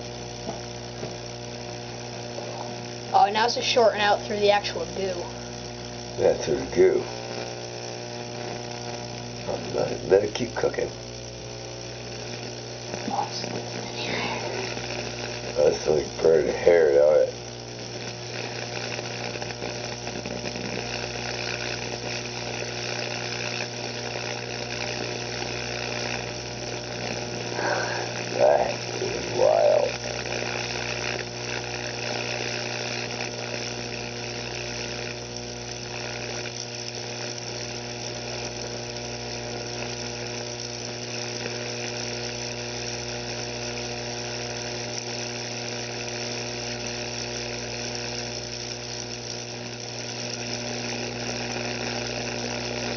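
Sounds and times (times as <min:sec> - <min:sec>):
electrical arc buzzing and sizzling: 0:00.0 - 0:52.9
steady electrical hum: 0:00.0 - 0:52.9.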